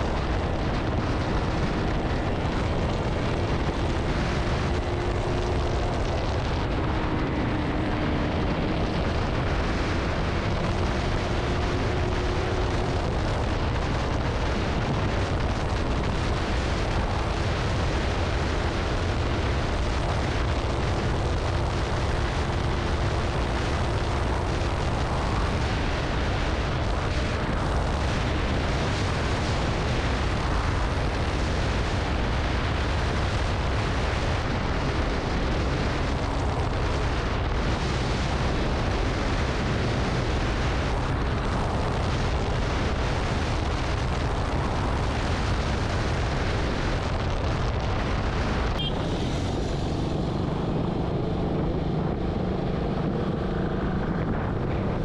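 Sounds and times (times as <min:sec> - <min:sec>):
motorcycle engine cruising: 0:00.0 - 0:55.0
wind rumbling over microphone: 0:00.0 - 0:55.0.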